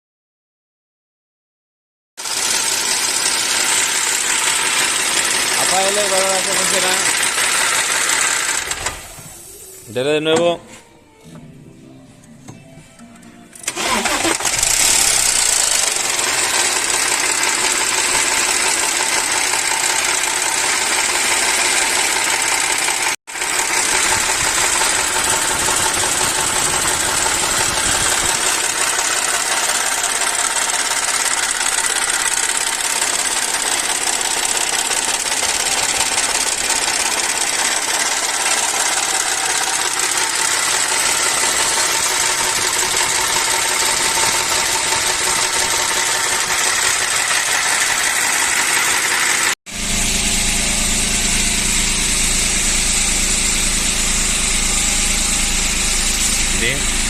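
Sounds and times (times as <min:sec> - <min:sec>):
car engine idling: 0:02.2 - 0:09.6, 0:13.7 - 0:57.0.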